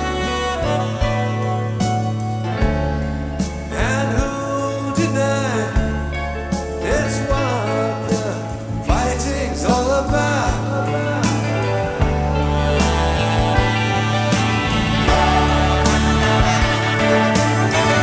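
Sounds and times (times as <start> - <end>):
rock band playing a slow ballad: 0.0 - 18.0
sliding lead melody: 0.0 - 18.0.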